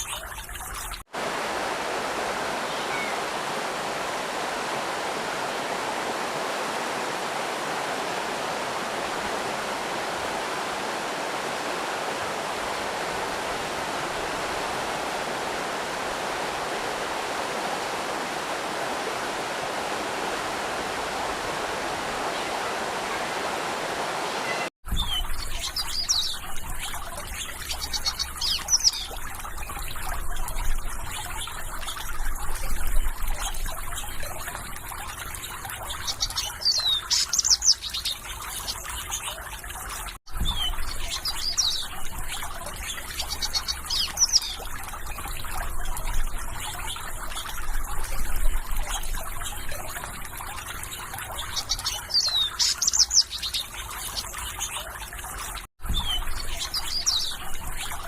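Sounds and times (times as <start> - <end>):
water trickling: 0.0 - 58.0
birds chirping: 1.8 - 32.1, 33.2 - 58.0.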